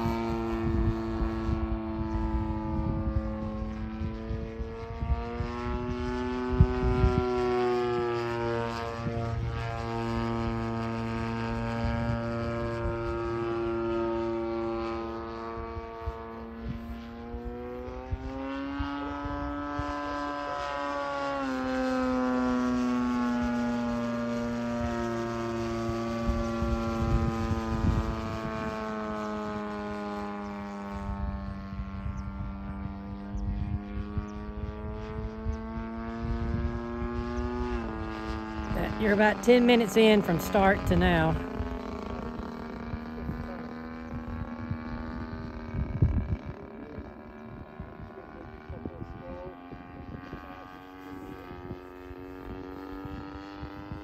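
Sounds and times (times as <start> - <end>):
model plane engine buzzing: 0.0 - 54.0.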